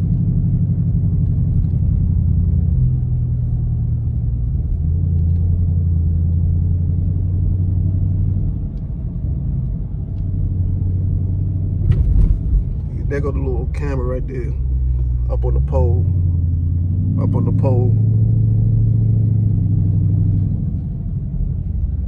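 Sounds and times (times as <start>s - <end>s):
car engine droning: 0.0s - 22.0s
road rumble: 0.0s - 22.0s.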